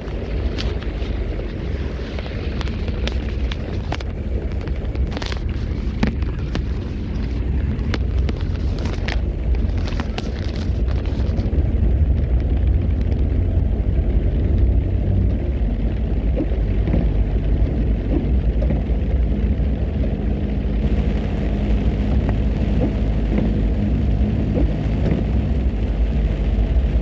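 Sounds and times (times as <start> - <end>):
faint engine hum: 0.0 - 27.0
vehicle engine and road rumble: 0.0 - 27.0.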